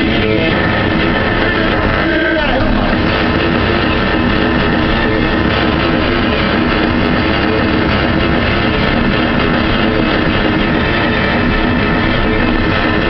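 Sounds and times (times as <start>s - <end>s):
rock music with guitar: 0.0s - 13.0s.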